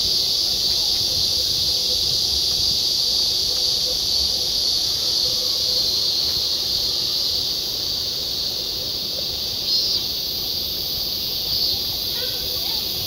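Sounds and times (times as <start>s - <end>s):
insects buzzing in trees: 0.0s - 13.0s
loud insect chirp: 0.0s - 13.0s.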